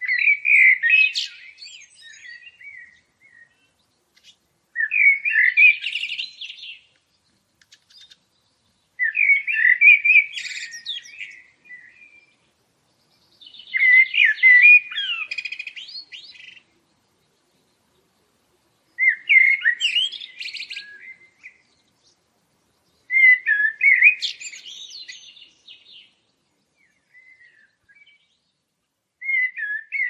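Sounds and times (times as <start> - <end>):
songbird warbling: 0.0 - 7.0, 7.6 - 12.4, 13.0 - 22.2, 22.8 - 26.2, 29.2 - 30.0.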